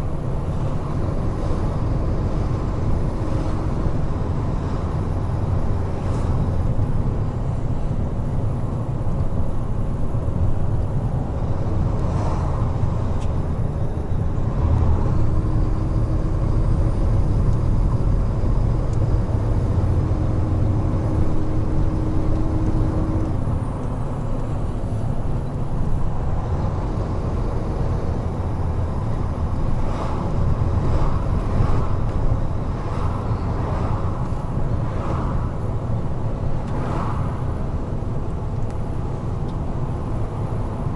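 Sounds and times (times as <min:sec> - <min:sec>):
road and tyre noise: 0:00.0 - 0:40.9
truck engine drone: 0:00.0 - 0:40.9.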